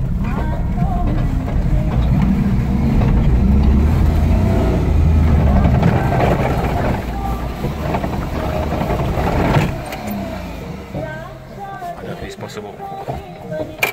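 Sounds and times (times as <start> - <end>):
car engine labouring: 0.0 - 13.9
car interior rattling: 0.0 - 13.9.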